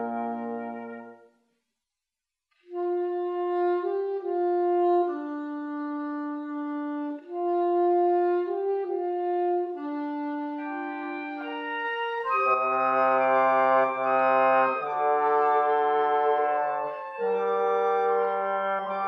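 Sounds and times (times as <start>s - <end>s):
saxophone and flutes playing chords: 0.0s - 1.3s, 2.7s - 19.0s.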